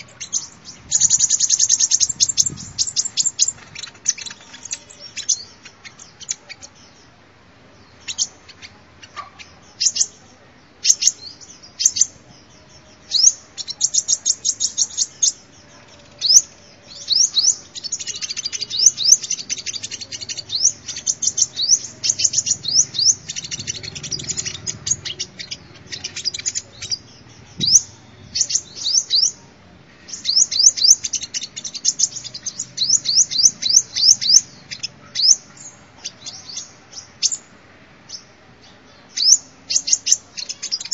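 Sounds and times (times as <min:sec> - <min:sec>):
bird chirping song: 0:00.0 - 0:40.9.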